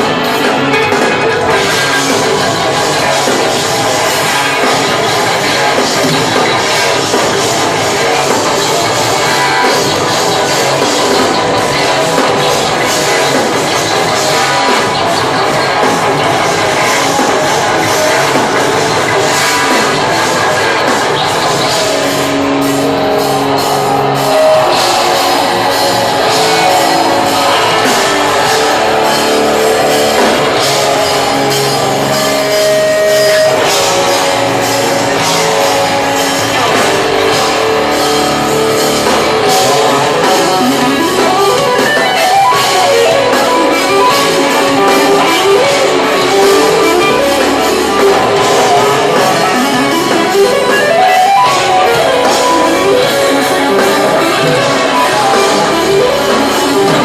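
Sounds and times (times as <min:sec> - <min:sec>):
drum kit: 0:00.0 - 0:57.0
metal electric guitars: 0:00.0 - 0:57.0.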